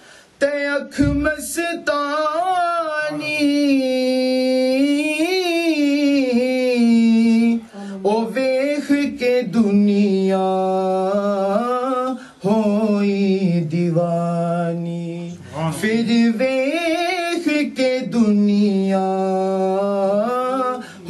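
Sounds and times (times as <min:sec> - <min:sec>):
man singing unaccompanied: 0:00.4 - 0:21.0.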